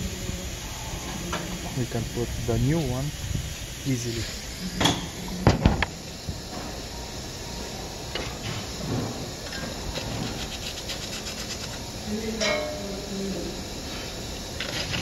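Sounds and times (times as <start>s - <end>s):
workshop hiss: 0.0s - 15.0s.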